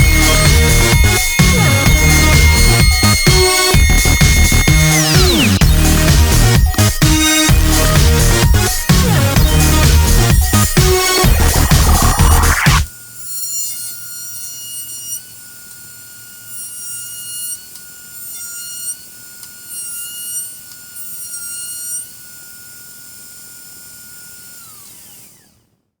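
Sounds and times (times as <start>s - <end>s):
router cutting wood: 0.0s - 25.8s
router spinning down: 0.0s - 25.8s
router whining: 0.0s - 25.9s.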